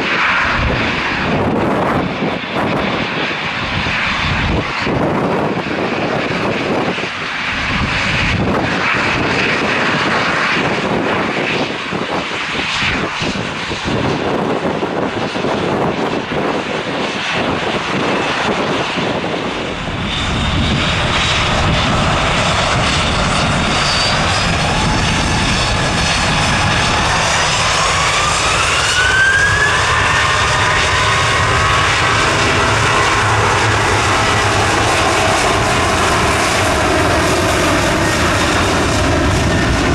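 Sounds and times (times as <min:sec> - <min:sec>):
jet engines: 0:00.0 - 0:39.9
turbine whine: 0:00.0 - 0:39.9
wind buffeting microphone: 0:00.0 - 0:39.9.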